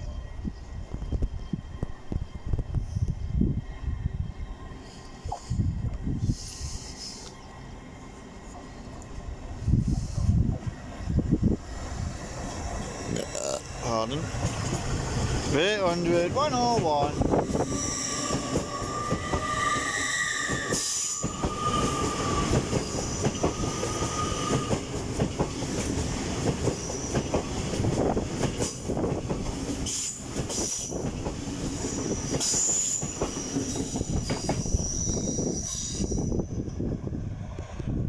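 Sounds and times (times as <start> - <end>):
train wheels rumbling and squealing: 0.0 - 38.0.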